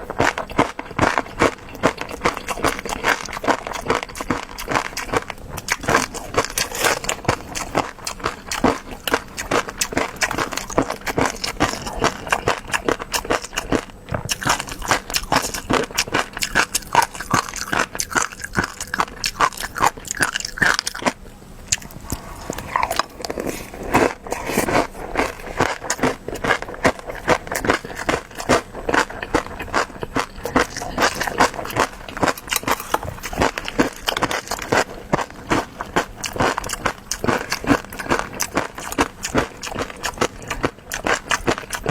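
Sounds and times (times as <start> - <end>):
biting and chewing crunches: 0.0 - 41.9.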